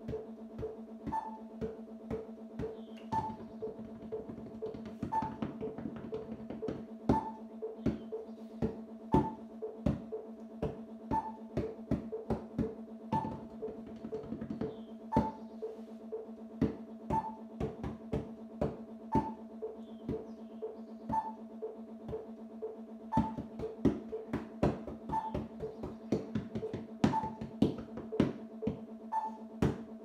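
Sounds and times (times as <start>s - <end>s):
mallets striking cushions: 0.0s - 15.5s, 16.6s - 19.4s, 20.0s - 20.4s, 23.2s - 28.9s, 29.6s - 30.0s.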